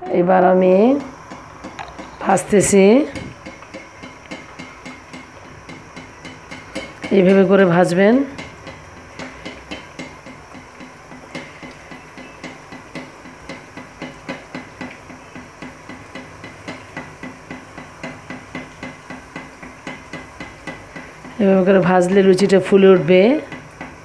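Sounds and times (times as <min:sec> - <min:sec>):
spoon tapping: 0:00.0 - 0:21.4
deep-frying sizzle and crackles: 0:00.5 - 0:24.0.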